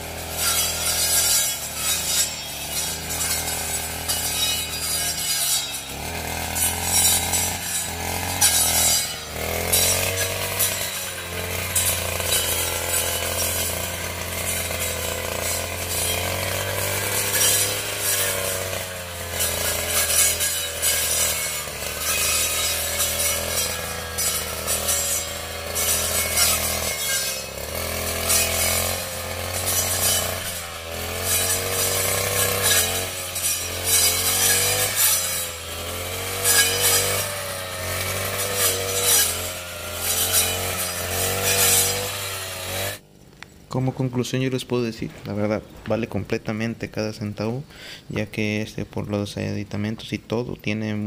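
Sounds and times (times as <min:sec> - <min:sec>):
brush cutter revving: 0:00.0 - 0:51.0.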